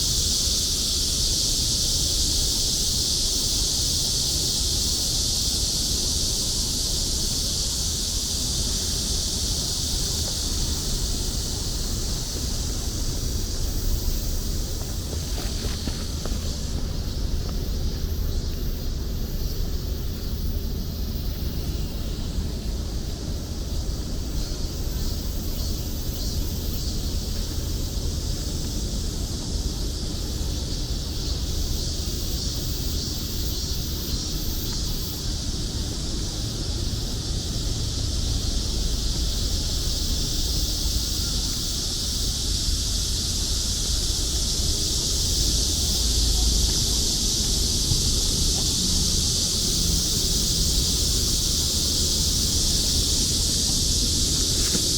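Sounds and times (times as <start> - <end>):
cicadas droning: 0.0 - 54.9.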